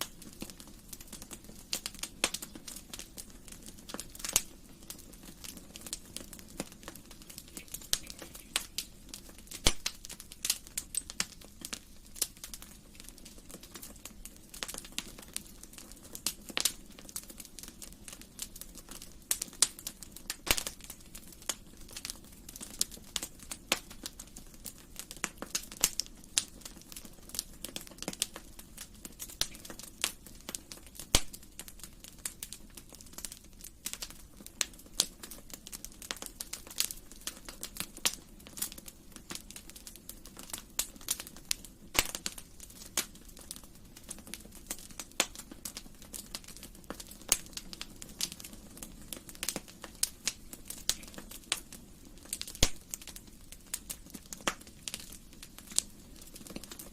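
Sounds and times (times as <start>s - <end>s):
soft rush of flames: 0.0s - 56.9s
wood fire crackling and popping: 0.0s - 56.9s.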